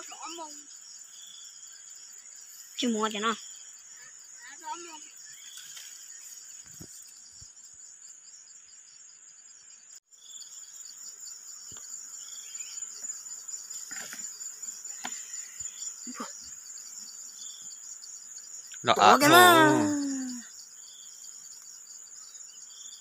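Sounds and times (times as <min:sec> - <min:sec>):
high-pitched insect trill: 0:00.0 - 0:23.0.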